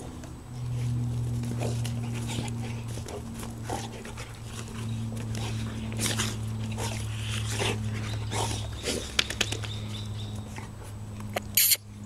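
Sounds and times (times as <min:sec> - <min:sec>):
dogs breathing and play noises: 0:00.0 - 0:12.0
steady low hum: 0:00.0 - 0:12.0.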